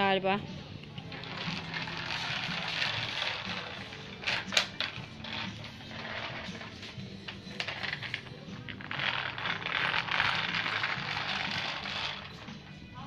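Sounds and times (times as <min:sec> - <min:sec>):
plastic toy cart rattling on tiles: 0:01.0 - 0:12.7.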